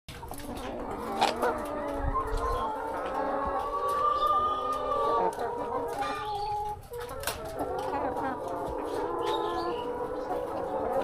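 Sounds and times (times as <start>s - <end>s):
hens clucking: 0.1s - 11.0s.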